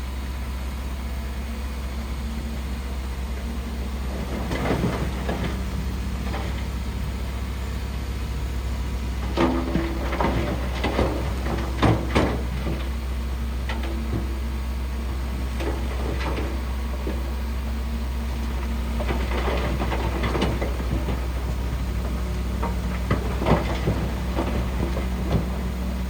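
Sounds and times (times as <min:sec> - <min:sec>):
bulldozer diesel engine under load: 0:00.0 - 0:26.0.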